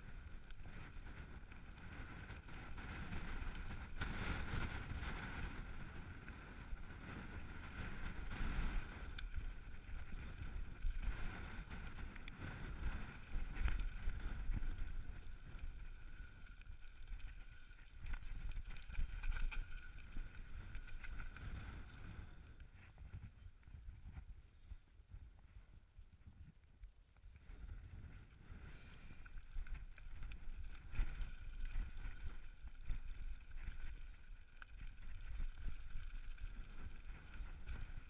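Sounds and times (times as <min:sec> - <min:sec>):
bike tyres on loose stones: 0:00.0 - 0:23.6, 0:27.8 - 0:38.0
wind rumble on microphone: 0:00.0 - 0:38.0.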